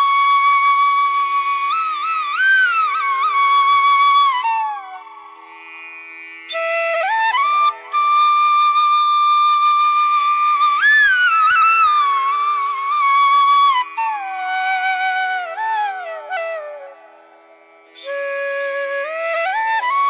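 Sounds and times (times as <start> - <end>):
flute melody: 0.0 - 5.3, 6.5 - 17.3, 18.0 - 20.0.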